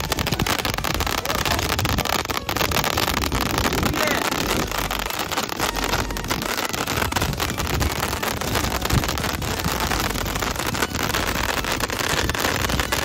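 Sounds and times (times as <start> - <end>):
fireworks hissing and crackling: 0.0 - 13.0.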